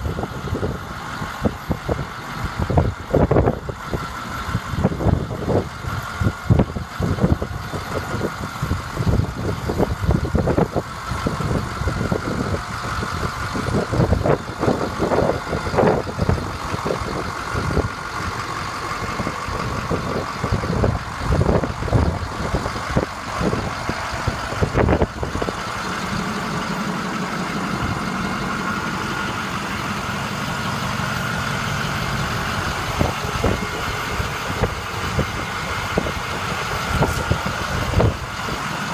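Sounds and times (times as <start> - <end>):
diesel truck idling: 0.0 - 38.9.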